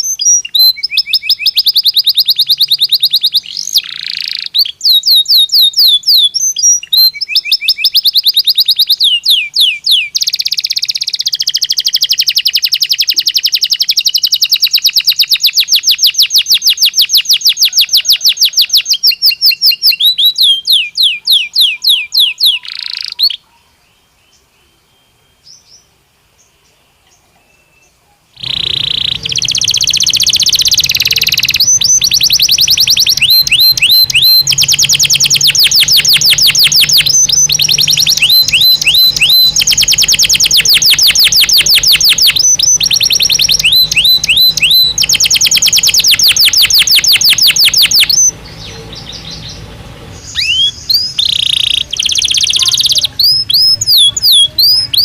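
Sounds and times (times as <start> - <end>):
canary singing trills: 0.0 - 26.0, 26.7 - 55.0.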